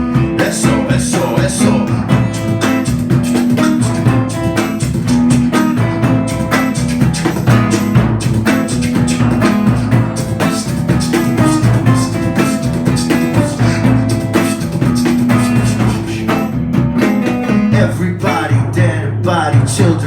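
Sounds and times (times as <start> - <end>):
live band playing: 0.0 - 18.5
bass notes: 0.0 - 20.0
drum kit beat: 0.0 - 20.0.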